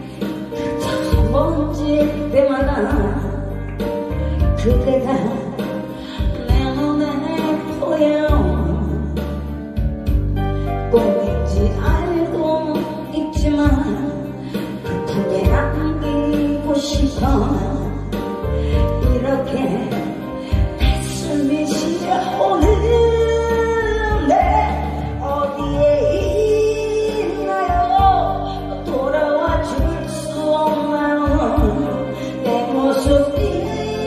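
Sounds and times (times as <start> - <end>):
woman singing into a microphone: 0.0 - 9.6, 10.7 - 34.0
backing track with strong bass: 0.0 - 34.0.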